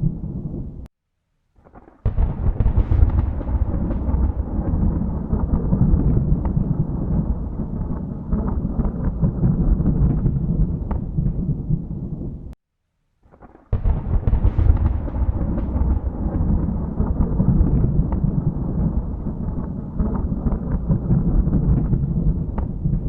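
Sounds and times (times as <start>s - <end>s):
sharp thunder crack: 1.7s - 12.6s, 13.4s - 23.0s
thunder rumbling: 2.0s - 12.6s, 13.7s - 23.0s.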